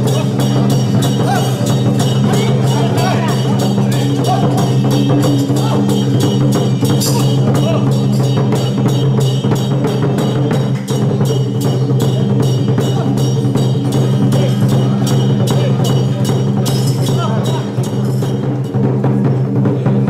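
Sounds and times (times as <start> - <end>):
drums and cymbals beating: 0.0 - 20.0.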